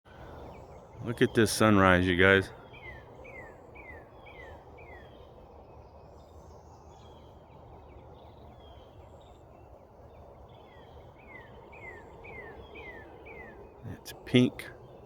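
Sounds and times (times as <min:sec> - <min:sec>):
low outdoor background noise: 0:00.1 - 0:15.0.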